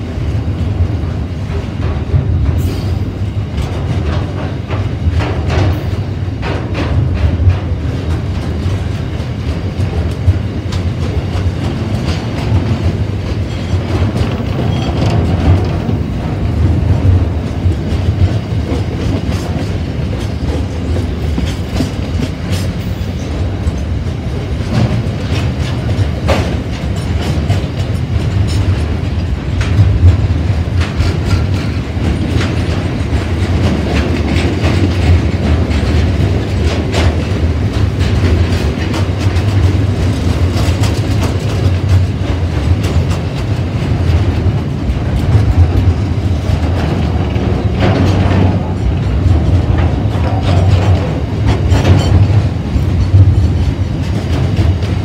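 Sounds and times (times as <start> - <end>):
train wheels rumbling on rail: 0.0 - 55.0
wheels clicking over rail joints: 0.3 - 55.0.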